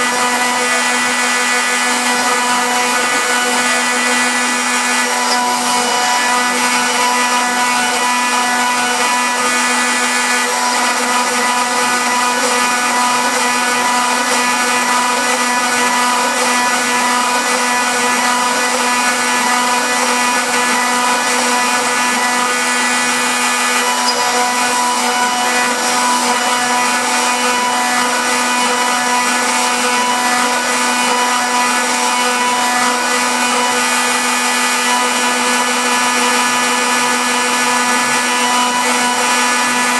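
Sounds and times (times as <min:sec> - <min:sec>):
router cutting fiberboard: 0:00.0 - 0:39.9
router spindle whine: 0:00.0 - 0:39.9.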